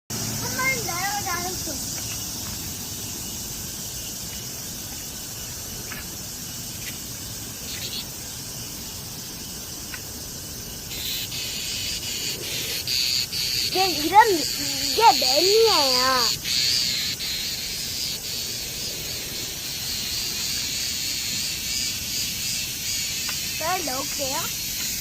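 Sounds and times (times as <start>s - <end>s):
cicadas buzzing: 0.1s - 25.0s
loud pulsing cicada call: 0.1s - 25.0s.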